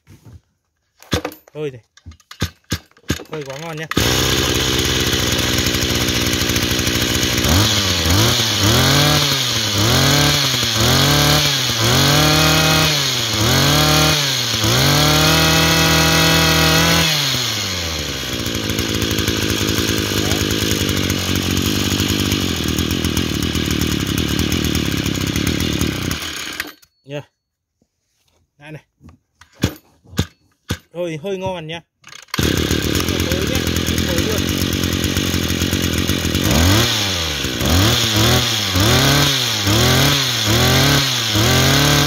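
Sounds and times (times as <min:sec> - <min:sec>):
brush cutter engine revving: 0:02.4 - 0:26.8, 0:32.1 - 0:42.0.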